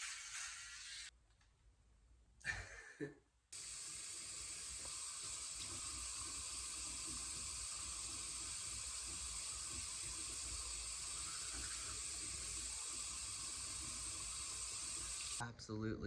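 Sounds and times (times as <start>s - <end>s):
water running from tap: 0.0s - 1.1s, 3.6s - 15.4s.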